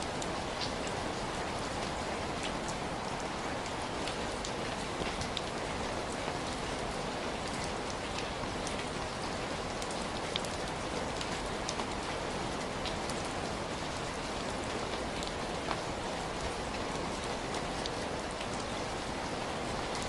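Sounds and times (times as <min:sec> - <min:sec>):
raindrops hitting a surface: 0:00.0 - 0:20.0.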